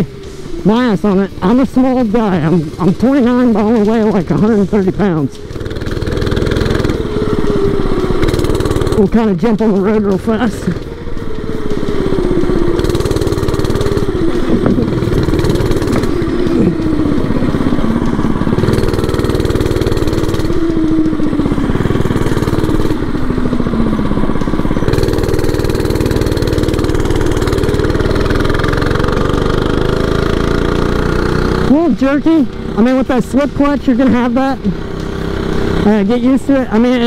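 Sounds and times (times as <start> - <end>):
minibike engine revving: 0.0 - 37.0.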